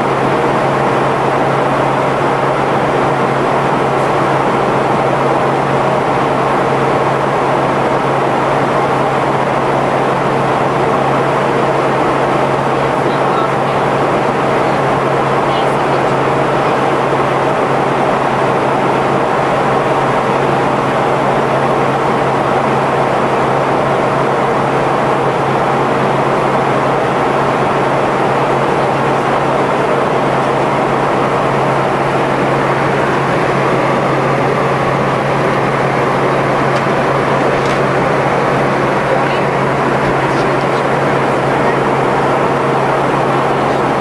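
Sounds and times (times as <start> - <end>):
constant low hum: 0.0 - 44.0
jet engines and airflow rushing: 0.0 - 44.0.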